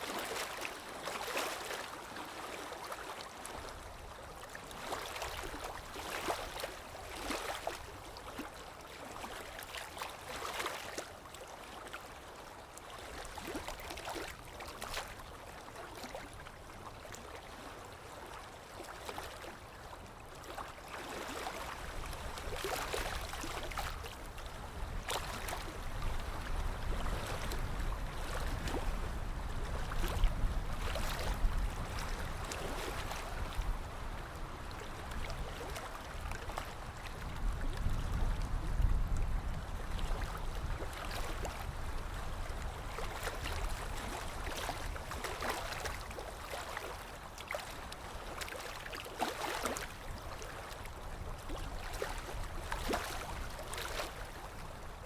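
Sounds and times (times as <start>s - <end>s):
water splashes and drips: 0.0s - 28.9s, 29.7s - 54.6s
moving water: 0.0s - 55.0s.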